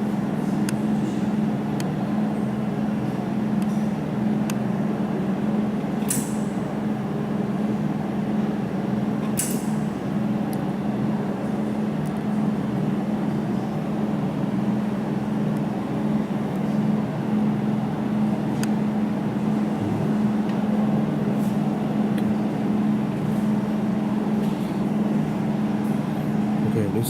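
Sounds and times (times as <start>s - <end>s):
welding machine electrical hum: 0.0s - 27.0s.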